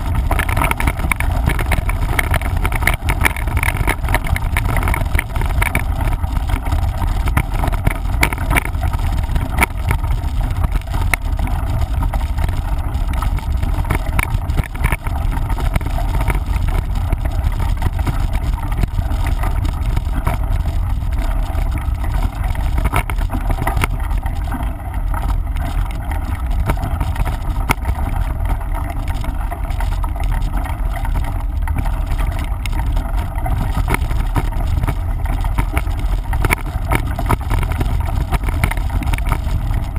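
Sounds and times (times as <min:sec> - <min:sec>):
bike clicks and rattles: 0:00.0 - 0:39.9.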